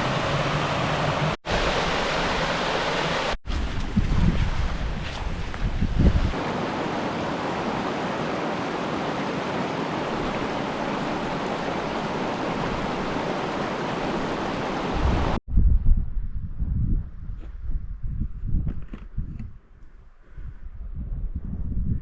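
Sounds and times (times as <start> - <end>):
gusty wind buffeting microphone: 3.4 - 22.0.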